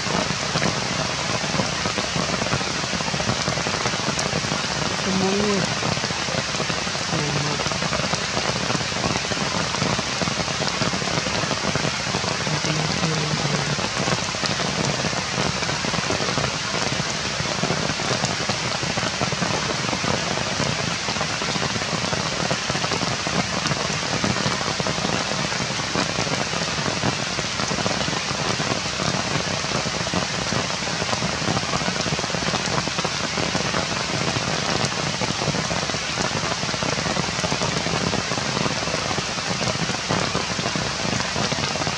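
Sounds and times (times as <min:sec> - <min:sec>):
rain falling on leaves: 0:00.0 - 0:41.9.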